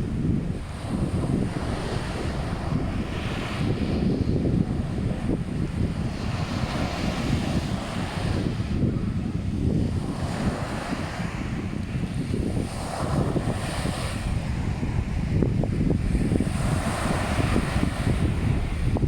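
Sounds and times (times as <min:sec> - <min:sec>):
sea surf washing: 0:00.0 - 0:19.0
wind buffeting microphone: 0:00.0 - 0:19.0.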